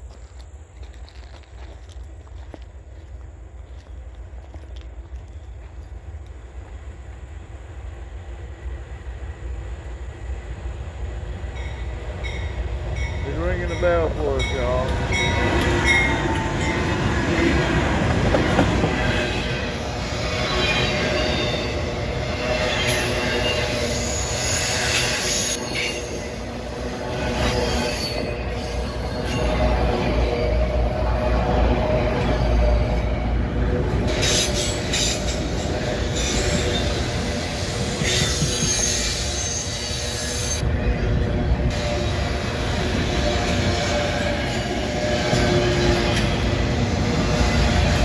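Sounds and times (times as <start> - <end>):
train cars clicking: 0.0 - 7.4, 11.4 - 48.0
freight train wheels rumbling: 0.0 - 48.0.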